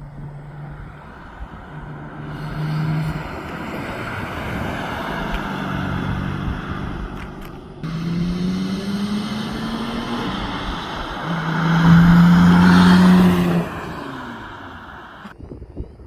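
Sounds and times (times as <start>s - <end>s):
car driving past: 0.0s - 15.3s.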